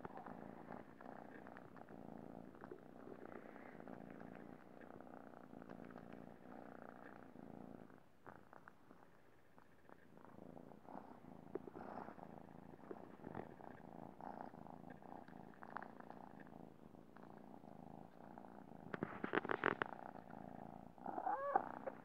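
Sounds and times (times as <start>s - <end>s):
kitten purring: 0.0s - 22.0s.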